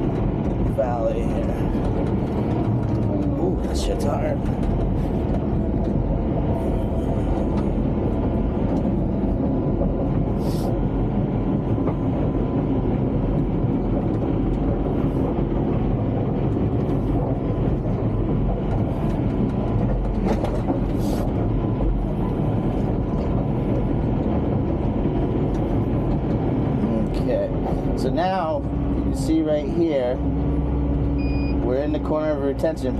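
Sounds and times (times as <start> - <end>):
bulldozer tracks clattering: 0.0 - 32.9
diesel engine running: 0.0 - 32.9.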